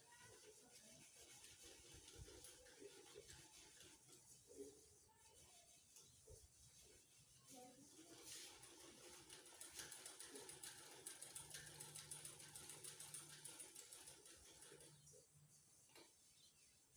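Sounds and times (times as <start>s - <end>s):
faint crackling and rustling: 0.0s - 16.9s.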